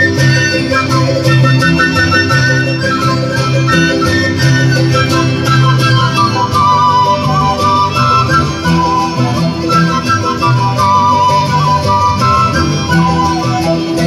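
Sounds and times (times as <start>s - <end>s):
strummed guitars: 0.0s - 14.0s
violins: 0.0s - 14.0s
woodwinds: 0.0s - 14.0s.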